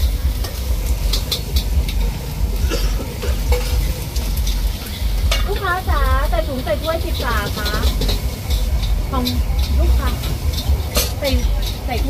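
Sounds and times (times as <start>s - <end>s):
steady low rumble: 0.0s - 12.0s
metal utensil scraping steel bowl: 0.4s - 2.2s, 3.1s - 5.7s, 6.4s - 12.0s.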